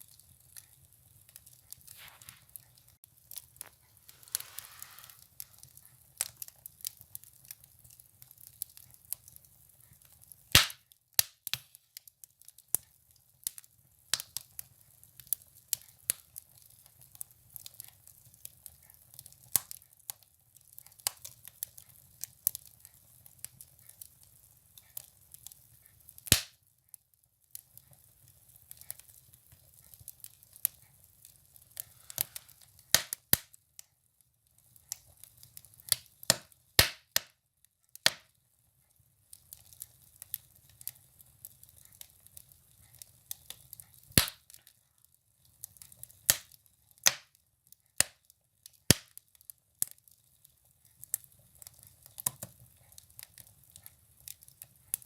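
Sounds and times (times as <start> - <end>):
firewood crackling: 0.0 - 37.3, 37.9 - 55.0.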